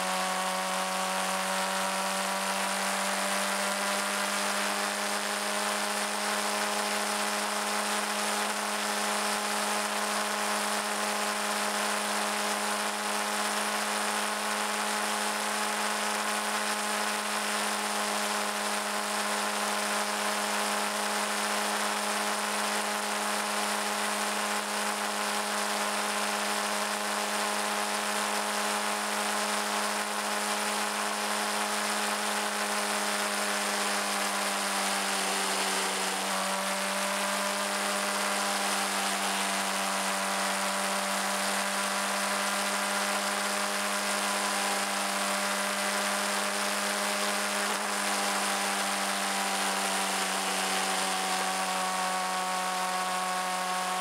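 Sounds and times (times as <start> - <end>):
motorcycle engine high whine: 0.0 - 54.0.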